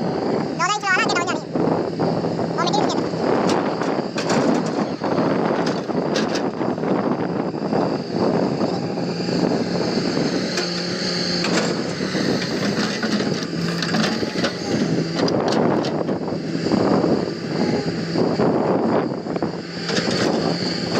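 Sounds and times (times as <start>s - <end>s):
excavator engine hum: 0.0s - 20.9s
machine working noise: 0.0s - 20.9s.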